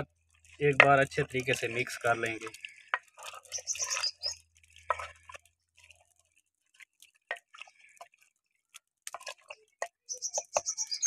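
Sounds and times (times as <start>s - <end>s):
wet squelching and scraping: 0.0s - 11.0s
wooden spoon stirring wet food: 0.0s - 11.0s.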